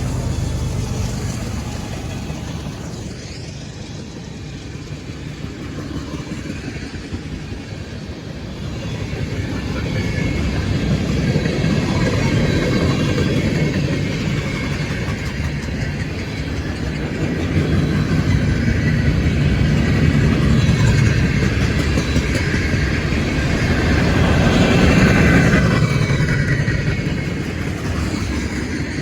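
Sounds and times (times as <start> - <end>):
freight train rumbling: 0.0 - 29.0.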